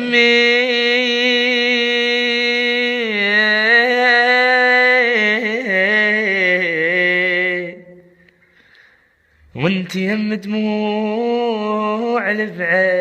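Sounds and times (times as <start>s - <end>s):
man singing unaccompanied: 0.0s - 8.2s, 9.4s - 13.0s.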